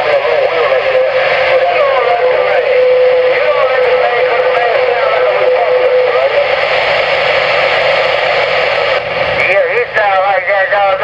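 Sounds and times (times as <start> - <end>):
garbled radio voices: 0.0 - 11.0
radio receiver hiss: 0.0 - 11.0.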